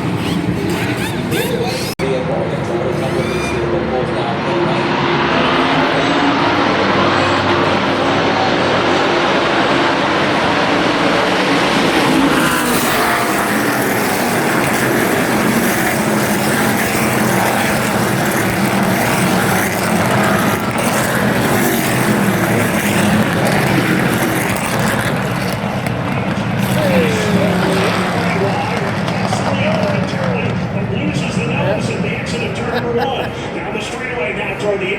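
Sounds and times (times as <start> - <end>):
race truck engines droning: 0.0 - 34.9.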